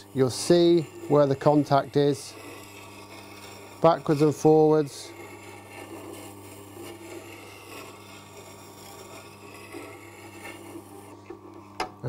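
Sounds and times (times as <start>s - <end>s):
gouge scraping on grindstone: 0.0s - 11.8s
sharpener motor humming: 0.0s - 12.0s.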